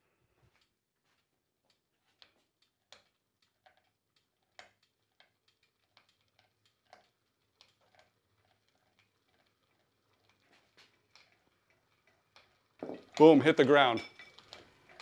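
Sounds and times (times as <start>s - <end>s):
spinning flywheel ticking: 1.6s - 15.0s.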